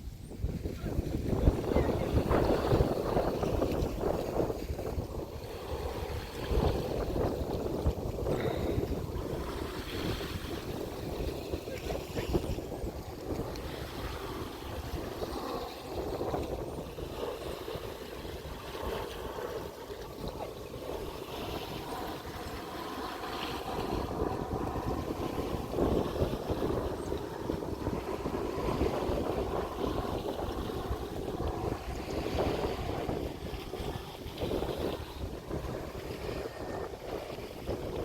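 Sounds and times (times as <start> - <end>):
steady low rumble: 0.0 - 38.0
wind buffeting microphone: 0.0 - 38.0.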